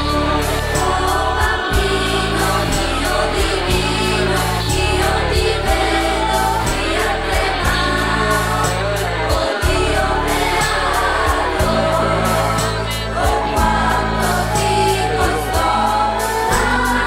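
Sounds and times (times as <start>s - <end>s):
choir singing: 0.0s - 17.0s
low instrumental accompaniment: 0.0s - 17.0s.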